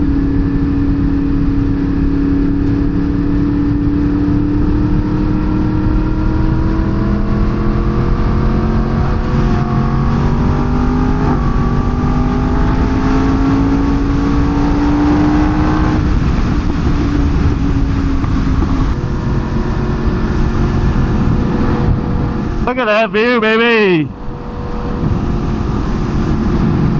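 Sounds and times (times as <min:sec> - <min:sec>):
motorcycle engine and exhaust: 0:00.0 - 0:26.9
wind and road noise: 0:00.0 - 0:26.9.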